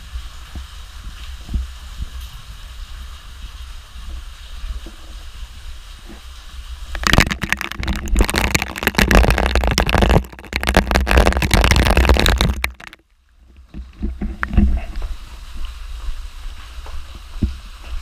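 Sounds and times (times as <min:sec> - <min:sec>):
wind and rain buffeting microphone: 0:00.0 - 0:18.0.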